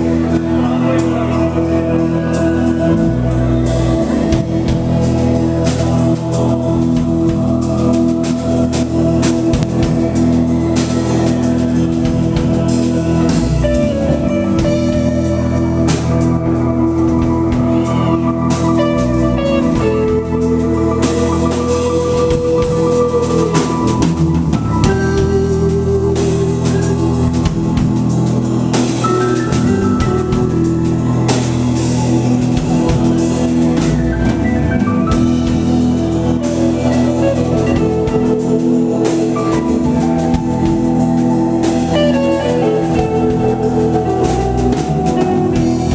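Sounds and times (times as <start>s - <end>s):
held keyboard chords: 0.0s - 45.9s
live rock band playing: 0.0s - 45.9s.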